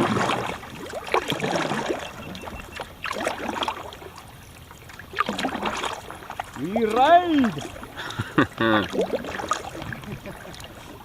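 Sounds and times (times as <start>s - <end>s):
paddle strokes splashing water: 0.0s - 11.0s.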